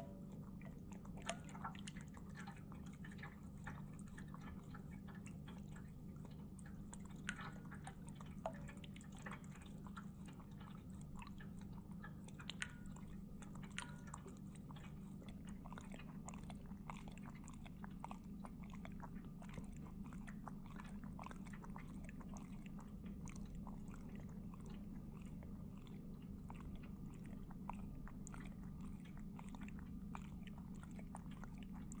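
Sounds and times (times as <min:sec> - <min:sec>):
cat lapping water: 0:00.0 - 0:32.0
water trickling: 0:00.0 - 0:32.0.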